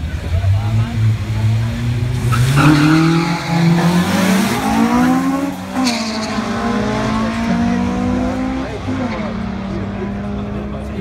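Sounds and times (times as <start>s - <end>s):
car engines revving and accelerating: 0.0s - 11.0s.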